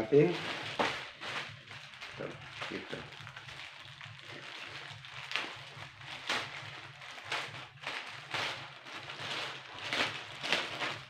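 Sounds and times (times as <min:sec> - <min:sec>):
plastic pouch rustling and crinkling: 0:00.0 - 0:11.0.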